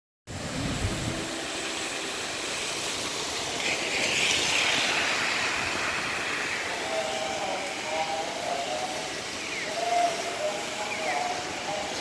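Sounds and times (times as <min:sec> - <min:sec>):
wind buffeting microphone: 0:00.3 - 0:10.5
bright hiss: 0:00.3 - 0:12.0
wind and rain rushing: 0:00.3 - 0:12.0.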